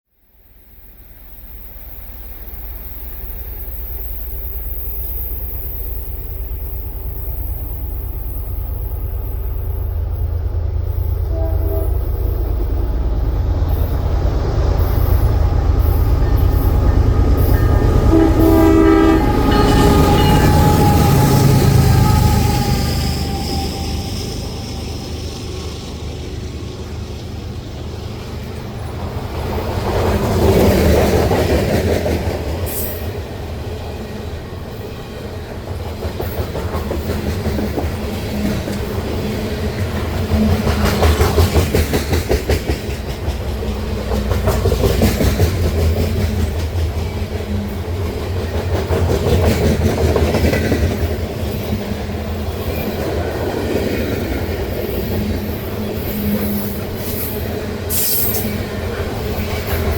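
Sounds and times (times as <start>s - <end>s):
train wheels clacking on rails: 1.9s - 59.9s.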